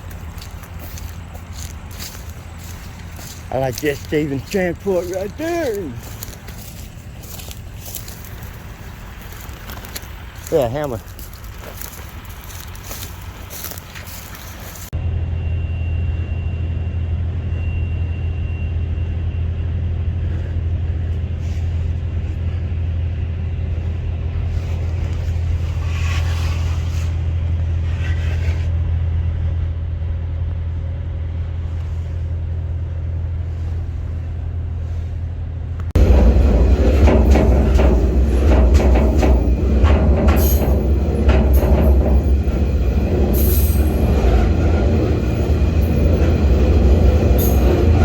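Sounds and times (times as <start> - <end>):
vehicle rumble: 0.0 - 48.0.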